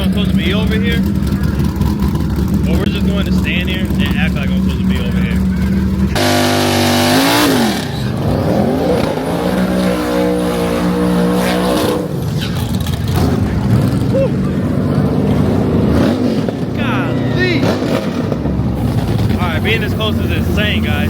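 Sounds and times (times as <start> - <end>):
loud car engine revving: 0.0 - 21.0.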